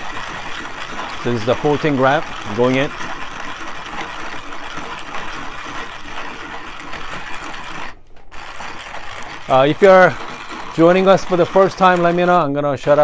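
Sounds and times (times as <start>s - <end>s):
hand coffee grinder grinding beans: 0.0s - 13.0s.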